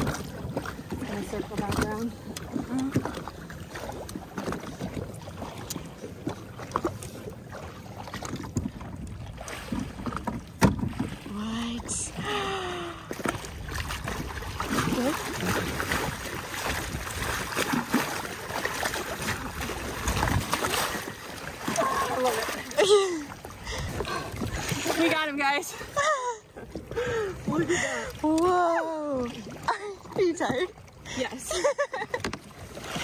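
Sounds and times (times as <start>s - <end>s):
water slapping against hull: 0.0s - 33.0s.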